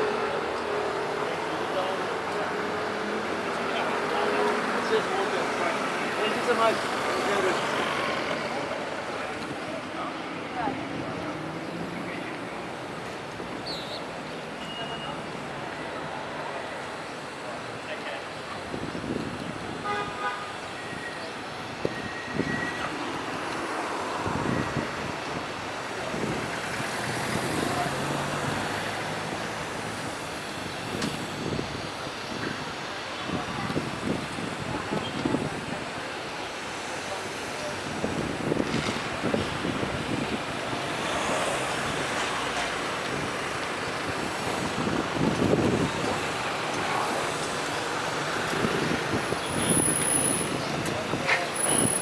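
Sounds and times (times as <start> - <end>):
passing vehicles: 0.0 - 52.0
street traffic: 0.0 - 52.0.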